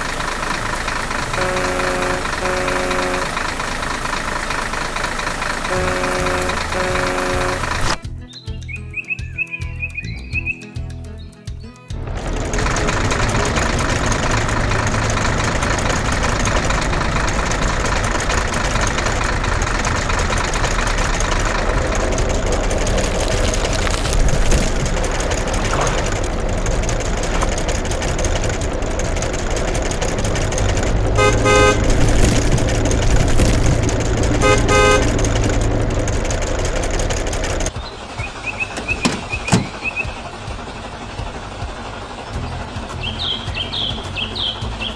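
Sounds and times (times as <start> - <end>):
heavy vehicle engine running: 0.0 - 8.1, 11.9 - 44.9.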